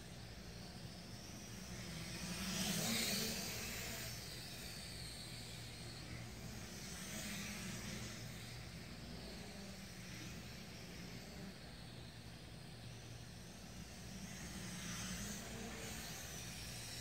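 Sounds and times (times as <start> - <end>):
drone propellers buzzing: 0.5 - 12.1, 12.8 - 17.0.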